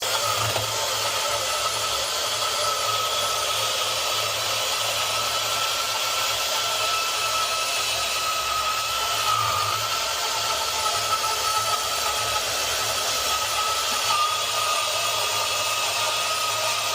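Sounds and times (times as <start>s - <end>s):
power saw cutting pipe: 0.0s - 16.9s.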